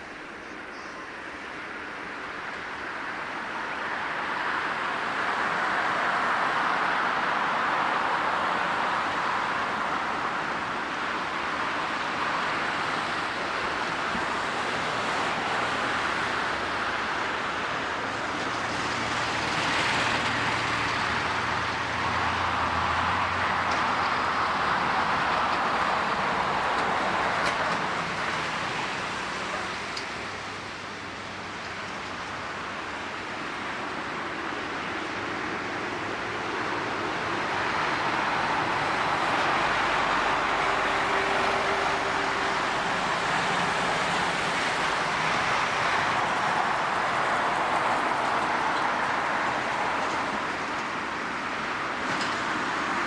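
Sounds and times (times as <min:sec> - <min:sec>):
jet airliner engines roaring: 0:00.0 - 0:53.0.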